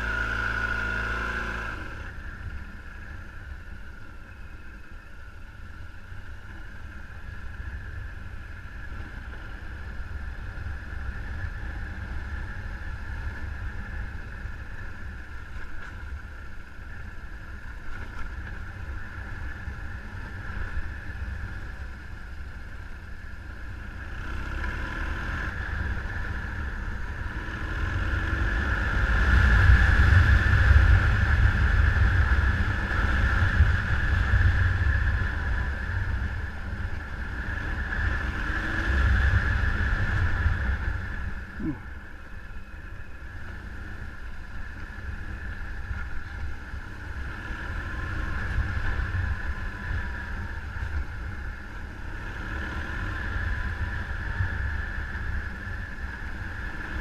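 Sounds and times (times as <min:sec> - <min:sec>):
vehicle engine droning: 0:00.0 - 0:57.0
wind rumble on microphone: 0:05.7 - 0:57.0.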